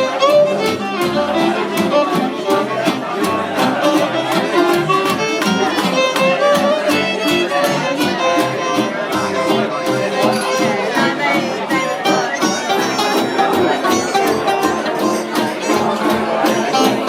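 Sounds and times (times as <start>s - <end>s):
live band with fiddle: 0.0s - 17.0s.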